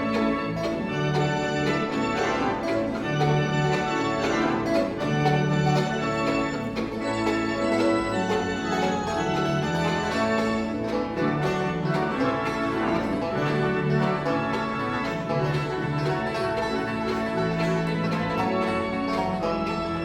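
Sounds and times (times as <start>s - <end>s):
banjo picking: 0.0s - 20.0s
bluegrass band playing: 0.0s - 20.0s
guitar picking: 0.0s - 20.0s.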